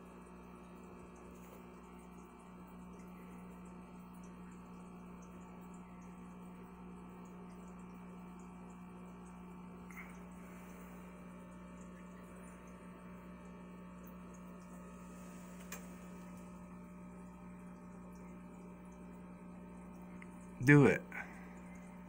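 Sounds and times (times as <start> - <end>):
aquarium pump hum: 0.0 - 22.0
aquarium water noise: 0.0 - 22.0.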